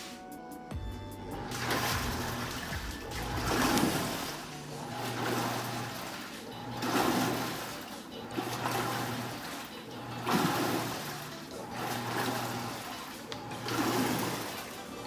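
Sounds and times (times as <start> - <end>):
washing machine motor humming: 0.7 - 15.0
water swishing in a tub: 1.2 - 15.0.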